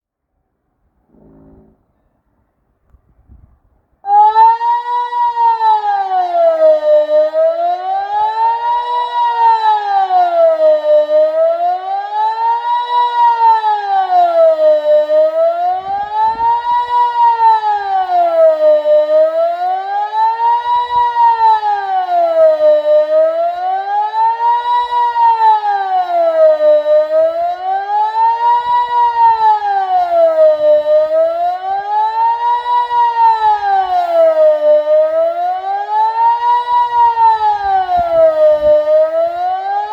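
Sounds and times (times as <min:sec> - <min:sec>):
siren wailing: 0:01.1 - 0:01.8, 0:04.1 - 0:39.9.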